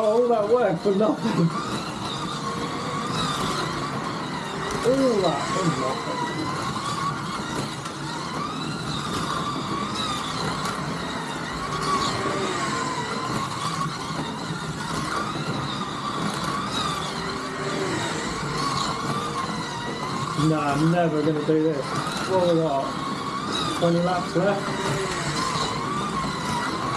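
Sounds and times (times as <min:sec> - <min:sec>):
slot car motors whining: 0:00.0 - 0:26.9.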